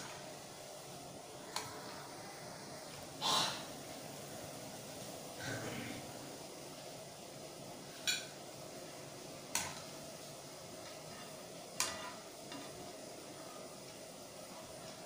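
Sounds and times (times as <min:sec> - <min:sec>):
balls frying in hot oil: 0:00.0 - 0:15.0.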